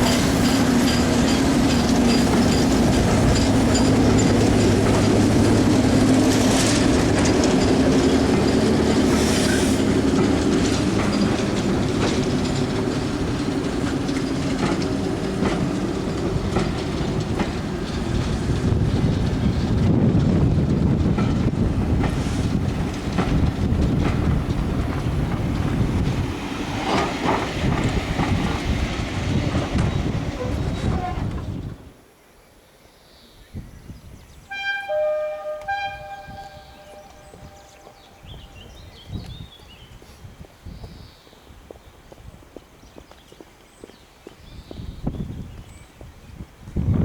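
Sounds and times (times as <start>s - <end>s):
train wheels clicking on rail joints: 0.0s - 31.9s, 34.6s - 47.0s
train engine hum: 0.0s - 32.2s, 33.5s - 47.0s.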